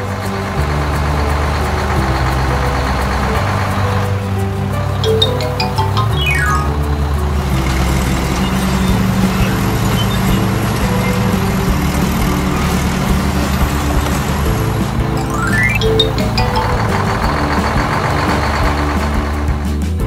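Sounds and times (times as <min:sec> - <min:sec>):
background music: 0:00.0 - 0:20.0
heavy vehicle engine chugging: 0:00.0 - 0:20.0.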